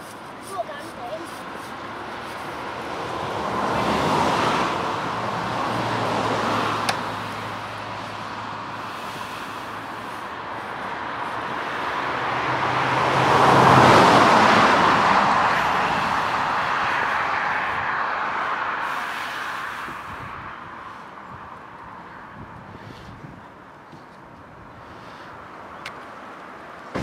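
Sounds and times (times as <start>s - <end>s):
vehicles passing by: 0.0s - 27.0s.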